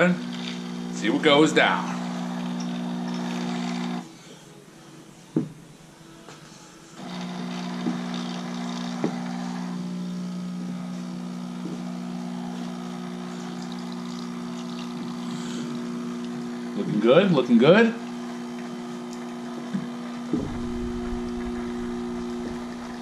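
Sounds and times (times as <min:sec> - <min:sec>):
espresso machine pump humming: 0:00.0 - 0:04.1, 0:07.0 - 0:17.0, 0:18.0 - 0:23.0.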